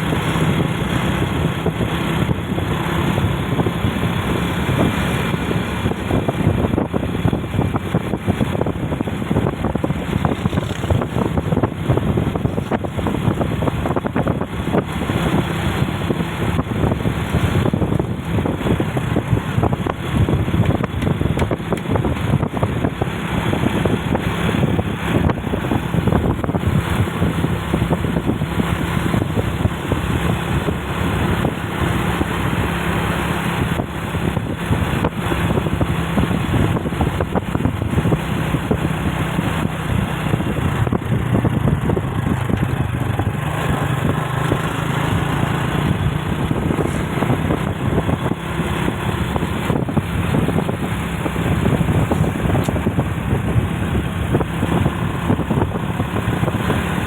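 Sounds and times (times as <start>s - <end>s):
road and wind noise: 0.0s - 57.0s
vehicle engine running: 0.0s - 57.0s.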